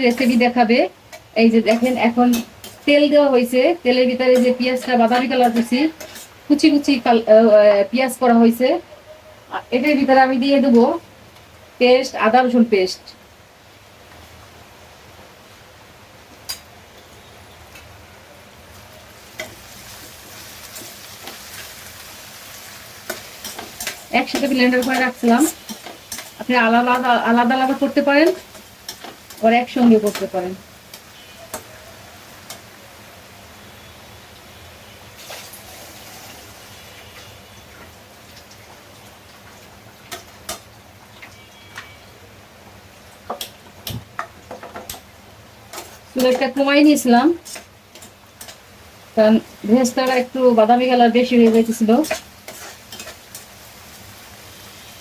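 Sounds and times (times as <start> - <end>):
onions sizzling in oil: 0.0 - 8.7, 18.6 - 55.0.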